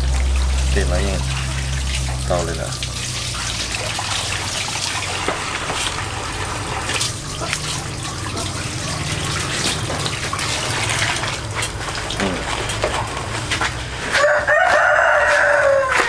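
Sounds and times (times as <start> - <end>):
water running and splashing: 0.0 - 16.0.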